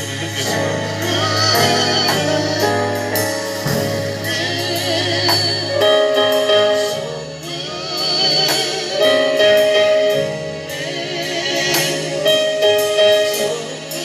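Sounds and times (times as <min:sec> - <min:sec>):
band with steady drum beat: 0:00.0 - 0:14.0
singers: 0:00.0 - 0:14.0.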